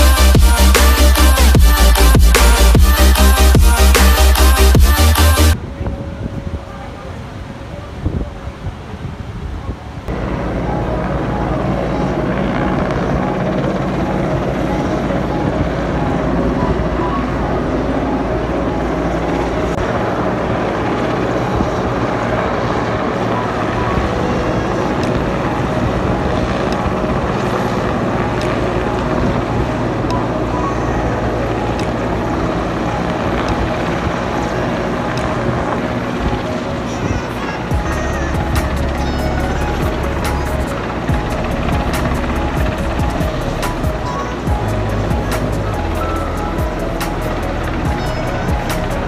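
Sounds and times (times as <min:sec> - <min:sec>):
helicopter flying overhead: 0:00.0 - 0:49.0.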